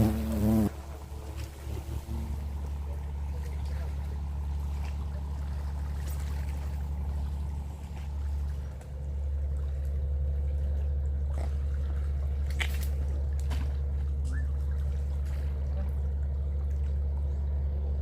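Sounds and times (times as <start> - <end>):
boat engine droning: 0.0 - 18.0
water splashing against hull: 0.0 - 18.0.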